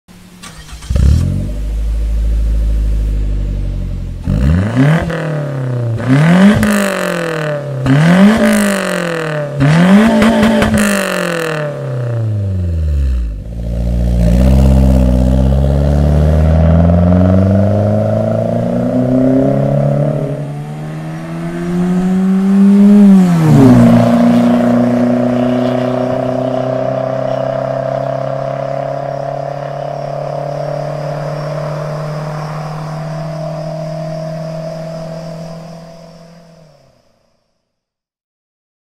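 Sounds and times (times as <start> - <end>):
car engine revving and accelerating: 0.4 - 36.9.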